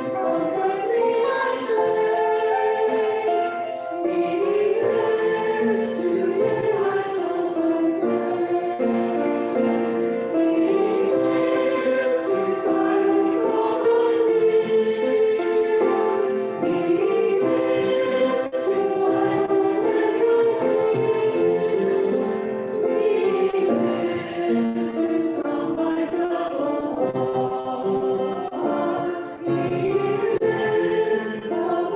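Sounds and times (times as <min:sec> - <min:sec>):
choir singing a hymn: 0:00.0 - 0:31.9
musical accompaniment: 0:00.0 - 0:31.9.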